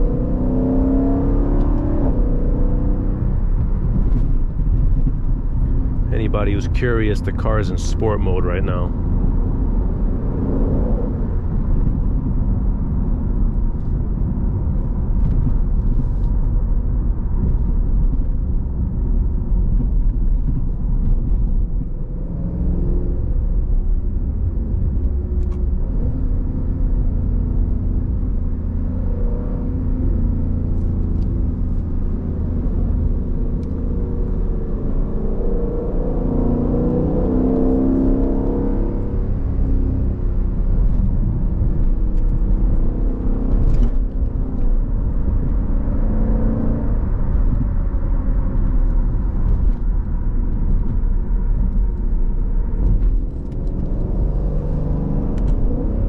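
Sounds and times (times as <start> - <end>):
car engine and exhaust: 0.0 - 56.0
road and tyre rumble: 0.0 - 56.0.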